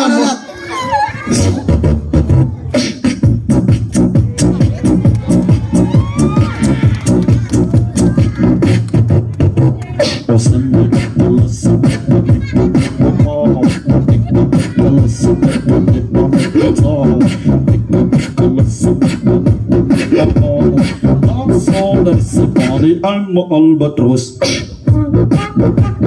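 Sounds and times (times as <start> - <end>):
person beatboxing: 1.3 - 23.0, 23.9 - 26.0.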